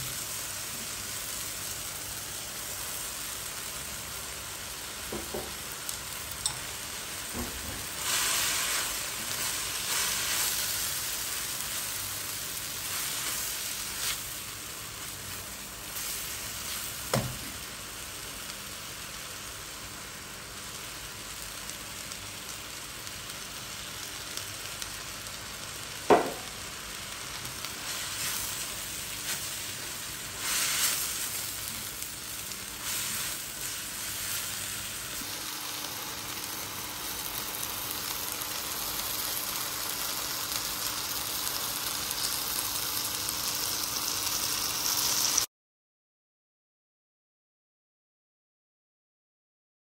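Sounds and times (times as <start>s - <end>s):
food sizzling in a wok: 0.0s - 45.5s.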